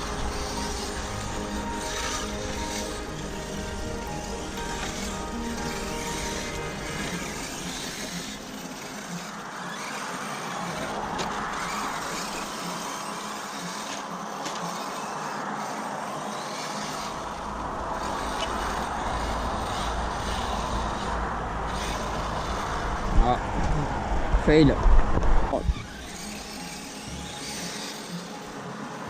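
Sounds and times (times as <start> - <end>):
radio-controlled car motor running: 0.0 - 24.0, 25.2 - 29.0
tyres on gravel: 0.0 - 24.5, 25.5 - 29.0.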